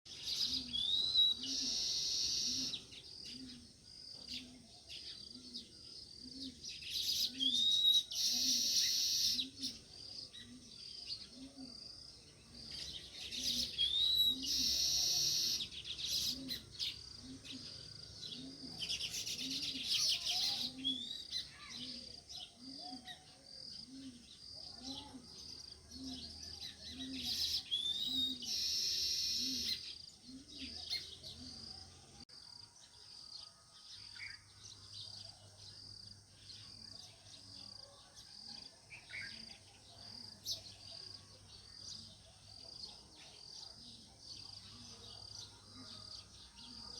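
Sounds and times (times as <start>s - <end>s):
sparrows chirping: 0.1s - 31.8s, 32.8s - 46.9s.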